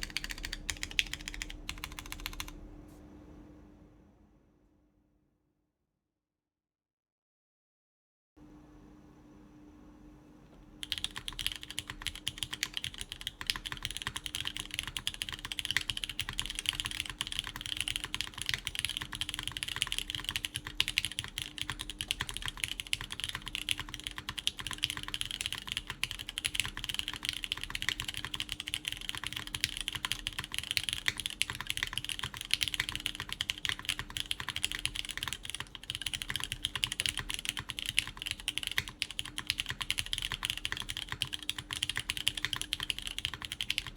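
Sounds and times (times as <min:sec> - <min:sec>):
mechanical keyboard typing: 0:00.0 - 0:02.6, 0:10.8 - 0:43.9.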